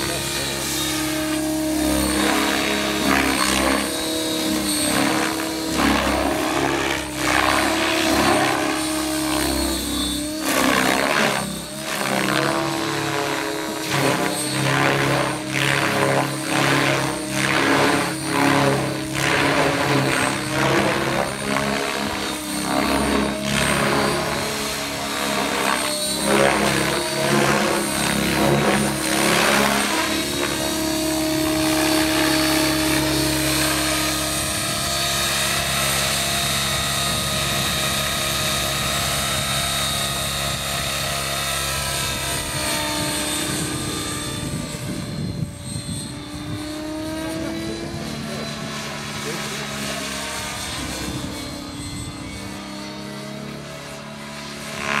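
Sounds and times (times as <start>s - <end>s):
electric motor and gears whining: 0.0s - 55.0s
helicopter rotor whooshing: 0.0s - 55.0s.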